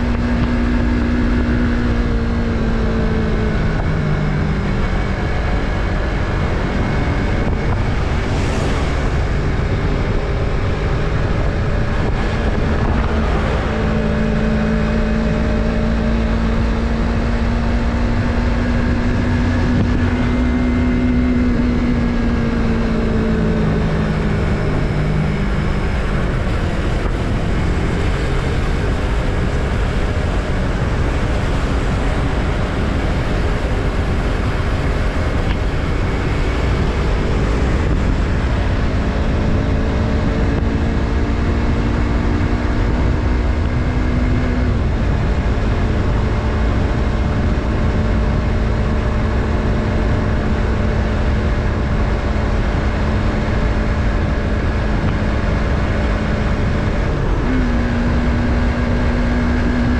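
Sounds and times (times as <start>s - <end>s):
motorcycle engine running: 0.0s - 59.9s
wind and road rush: 0.0s - 59.9s.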